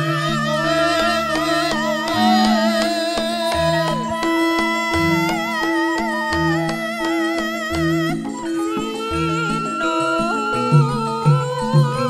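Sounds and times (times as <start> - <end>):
high wavering melody line: 0.0 - 12.0
ringing metallophone tones: 0.0 - 12.0.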